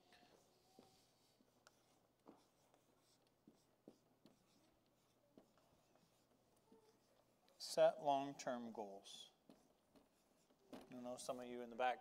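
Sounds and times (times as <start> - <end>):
marker writing on whiteboard: 0.2 - 11.8.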